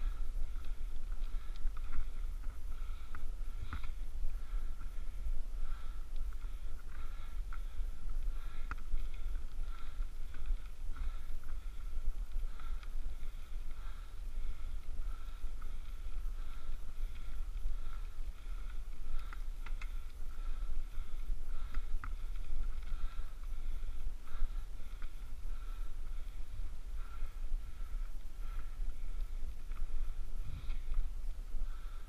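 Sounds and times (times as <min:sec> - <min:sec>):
low wind rumble: 0:00.0 - 0:32.0.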